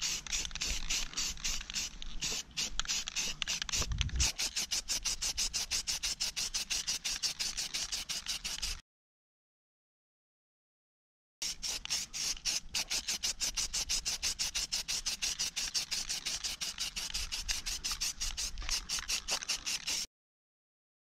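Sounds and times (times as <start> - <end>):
spray paint can hissing: 0.0 - 8.8, 11.4 - 20.1.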